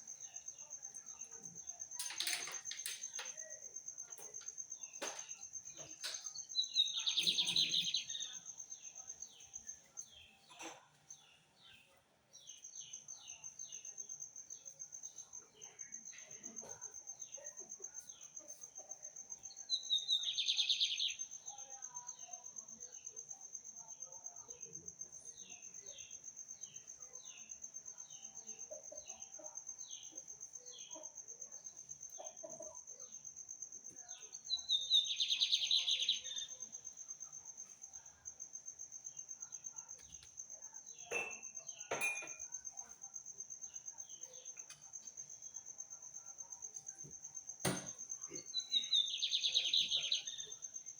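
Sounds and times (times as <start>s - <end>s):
songbird chirping: 0.0s - 50.9s.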